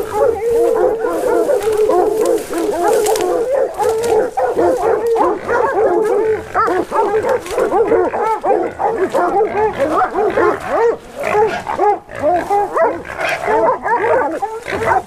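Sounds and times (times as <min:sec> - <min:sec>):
hounds barking and baying: 0:00.0 - 0:15.0.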